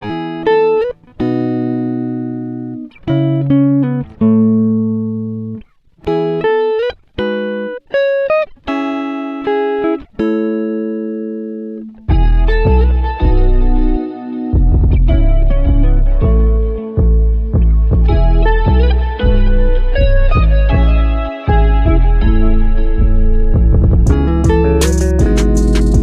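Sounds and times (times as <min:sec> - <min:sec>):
plucked-string instrumental music: 0:00.0 - 0:26.0.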